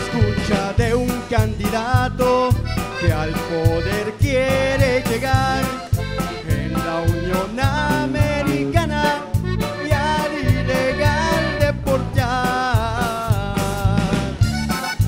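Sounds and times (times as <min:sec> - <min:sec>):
man singing into a microphone: 0:00.0 - 0:14.6
live band playing: 0:00.0 - 0:15.0.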